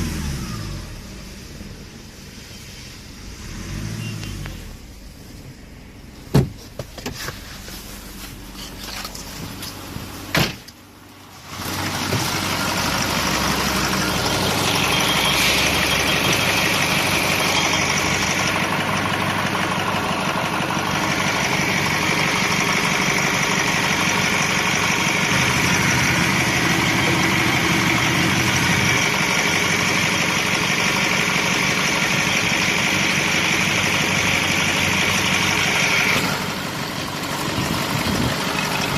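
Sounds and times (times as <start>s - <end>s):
diesel engine starting and idling: 0.0s - 38.9s.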